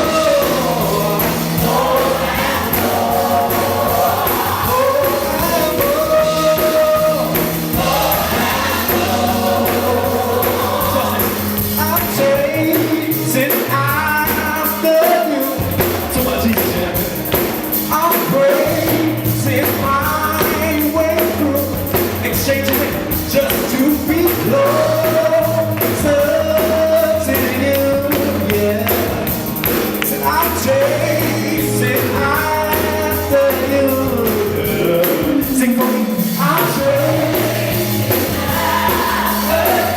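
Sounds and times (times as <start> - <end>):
sustained bass notes: 0.0 - 15.0, 15.6 - 39.9
voices singing gospel: 0.0 - 39.9.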